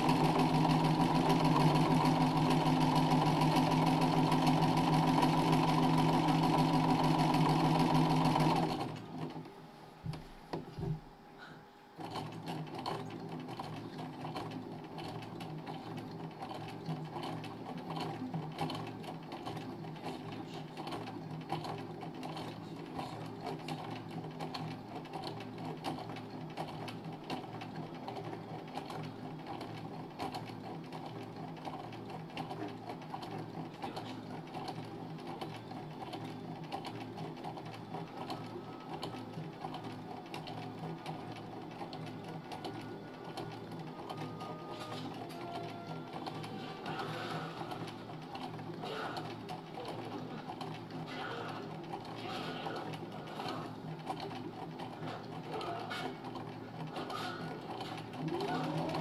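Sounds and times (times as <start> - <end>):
sewing machine stitching: 0.0 - 9.4, 12.0 - 59.0.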